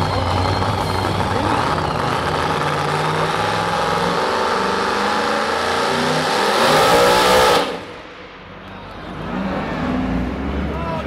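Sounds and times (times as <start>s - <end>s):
truck engine at full throttle: 0.0s - 11.0s.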